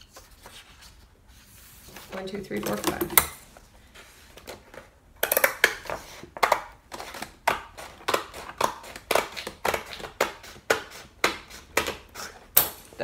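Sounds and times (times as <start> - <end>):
book pages turning: 0.0 - 2.8, 3.5 - 5.0, 5.6 - 12.5.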